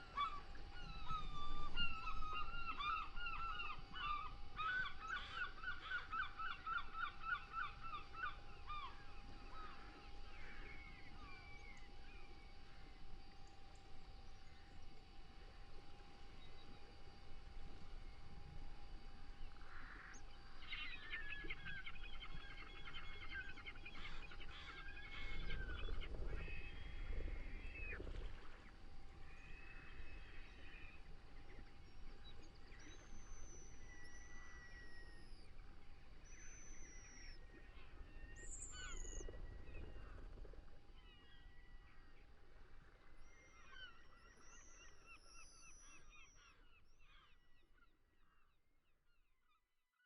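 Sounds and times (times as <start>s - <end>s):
faint steady hum: 0.0s - 49.6s.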